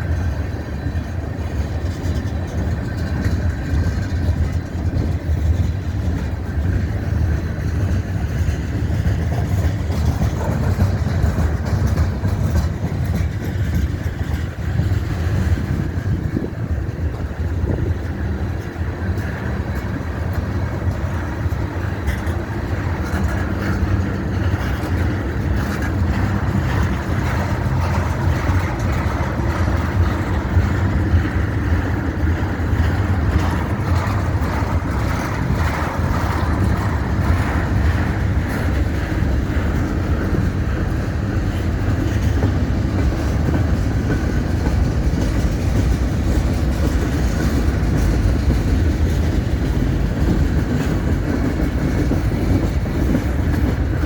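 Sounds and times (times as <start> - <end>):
faint clicks from train cars: 0.0 - 54.0
freight train wheels rumbling: 0.0 - 54.0.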